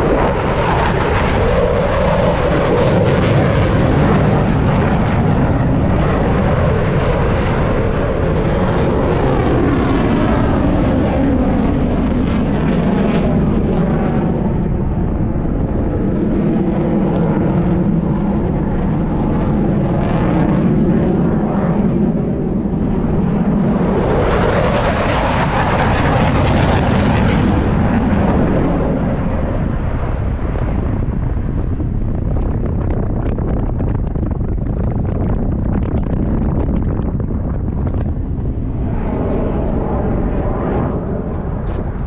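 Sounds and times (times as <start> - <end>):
aircraft engine drone: 0.0 - 42.0
aircraft passing by: 0.0 - 42.0.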